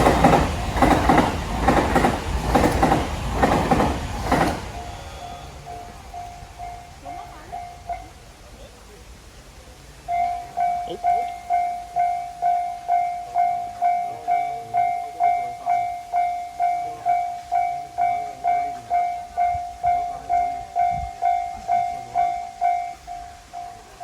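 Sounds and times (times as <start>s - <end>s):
level crossing bell clanging: 2.7s - 8.3s, 10.1s - 24.0s.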